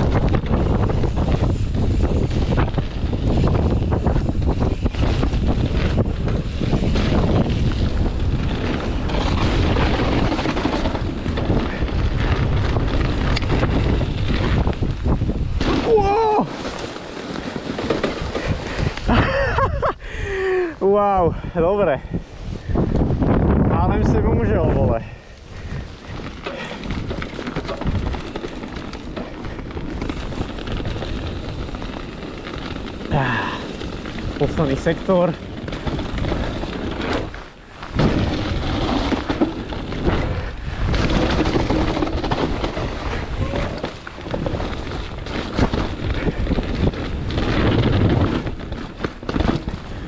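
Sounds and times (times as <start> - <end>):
bike rattles and knocks: 0.0 - 19.9, 22.7 - 50.0
low rumble of bike tyres: 0.0 - 50.0
wind rushing over microphone: 0.0 - 50.0.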